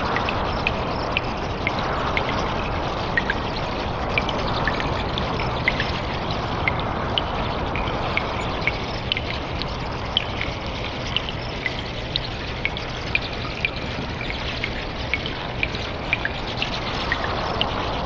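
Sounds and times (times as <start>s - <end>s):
trickle of running water: 0.0s - 18.0s
water drops plinking: 0.0s - 18.0s.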